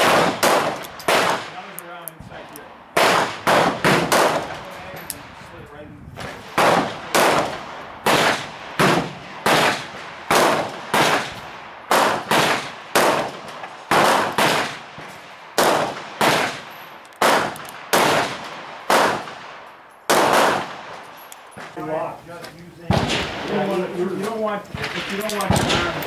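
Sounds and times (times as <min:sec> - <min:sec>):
gunshots with short echo: 0:00.0 - 0:01.8, 0:02.4 - 0:05.4, 0:06.2 - 0:21.8, 0:22.9 - 0:23.9, 0:24.7 - 0:26.0.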